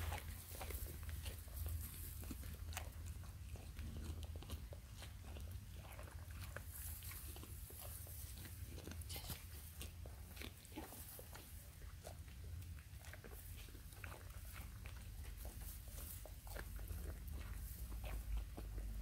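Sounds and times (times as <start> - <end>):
goat crunching carrot: 0.0 - 19.0.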